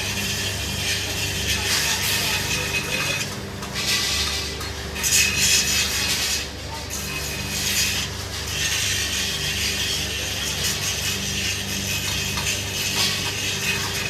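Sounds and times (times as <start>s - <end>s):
low machine hum: 0.0s - 14.0s
rasping scraping strokes: 0.0s - 14.0s.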